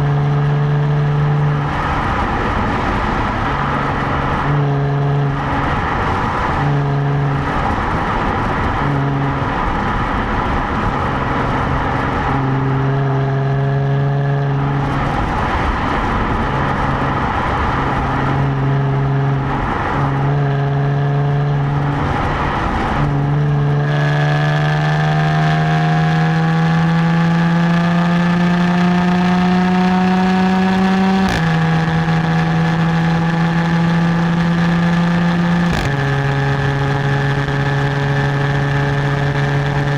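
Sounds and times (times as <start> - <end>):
car exhaust cruising: 0.0 - 39.9.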